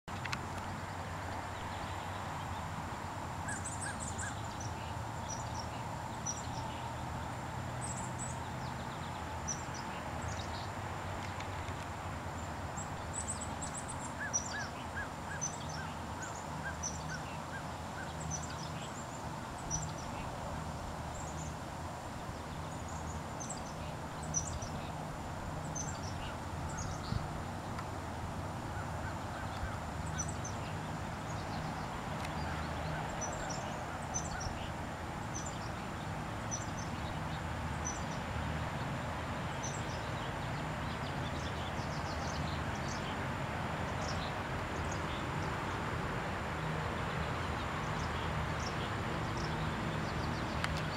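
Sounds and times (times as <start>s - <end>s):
birds chirping: 0.1s - 45.9s, 46.6s - 50.9s.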